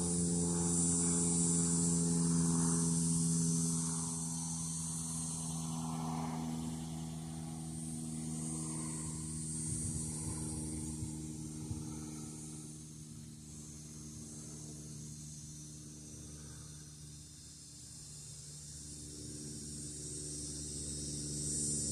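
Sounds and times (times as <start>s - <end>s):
engine droning: 0.0s - 21.9s.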